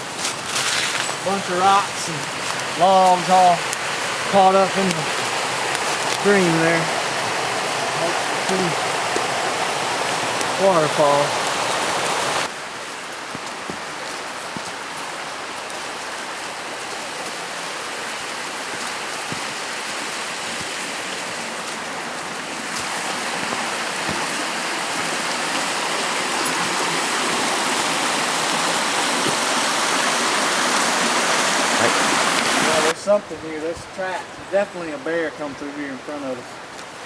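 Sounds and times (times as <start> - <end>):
small waterfall rushing: 0.0 - 37.0.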